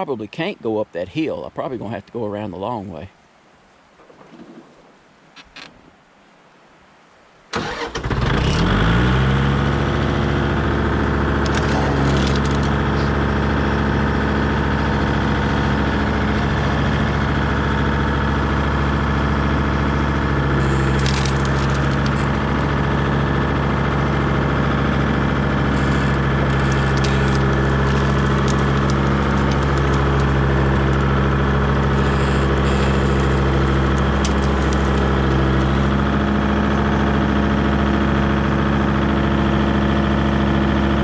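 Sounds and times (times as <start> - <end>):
tractor diesel engine starting: 7.5 - 41.0.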